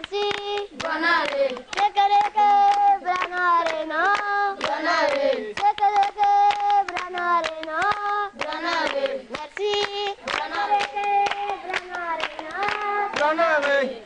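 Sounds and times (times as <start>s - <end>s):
children singing: 0.0s - 13.2s
hand clapping: 0.0s - 13.9s.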